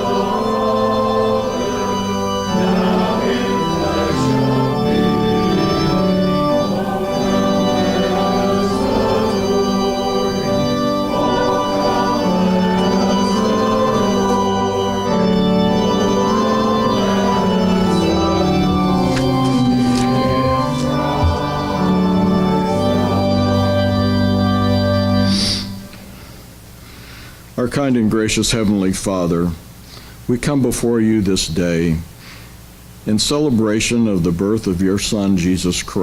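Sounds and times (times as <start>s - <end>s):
organ playing held chords: 0.0s - 29.6s.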